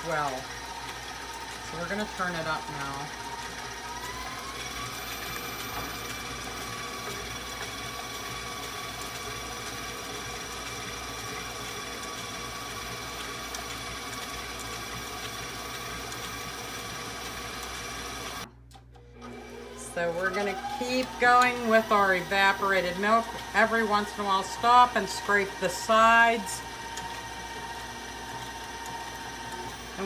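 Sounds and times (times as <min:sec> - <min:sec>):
stand mixer motor whining: 0:00.0 - 0:30.0.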